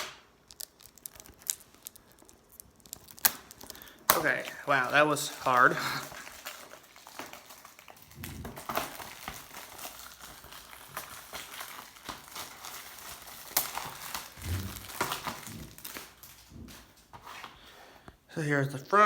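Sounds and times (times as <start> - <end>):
plastic shrink-wrap crinkling: 0.0 - 17.8.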